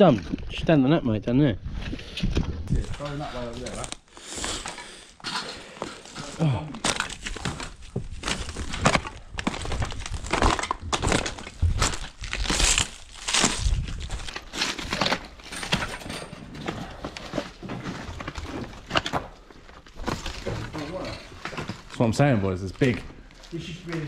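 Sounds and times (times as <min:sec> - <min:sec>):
footsteps crunching on broken tiles: 0:01.8 - 0:24.0
tiles scraping and cracking: 0:02.7 - 0:24.0.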